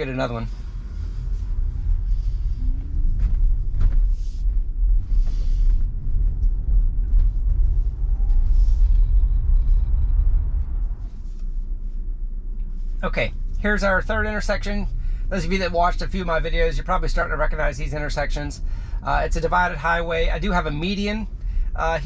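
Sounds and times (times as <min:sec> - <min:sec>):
road and tyre rumble: 0:00.0 - 0:22.0.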